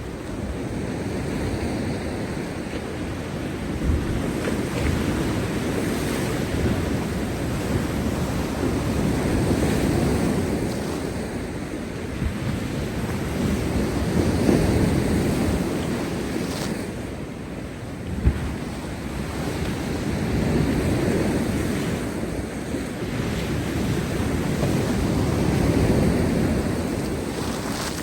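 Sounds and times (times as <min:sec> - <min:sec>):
wind buffeting microphone: 0:00.0 - 0:28.0
sea waves breaking on rocks: 0:00.3 - 0:28.0.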